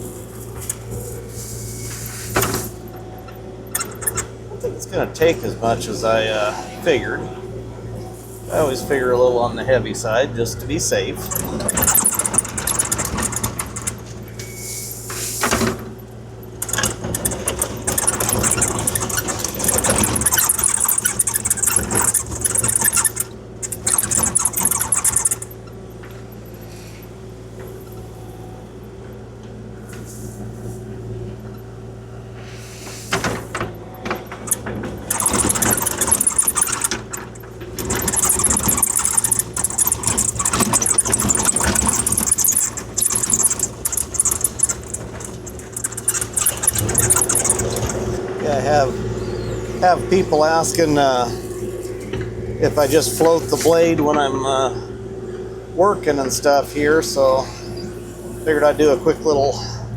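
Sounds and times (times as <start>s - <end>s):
gravel scraping and rattling: 0.0s - 28.7s, 32.8s - 54.8s
excavator diesel engine running: 0.0s - 59.9s.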